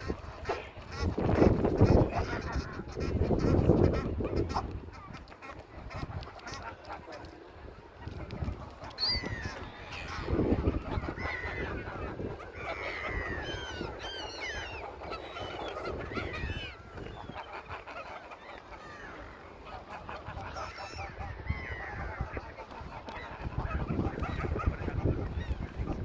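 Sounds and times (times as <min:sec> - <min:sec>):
geese honking: 0:00.0 - 0:07.3, 0:08.0 - 0:26.0.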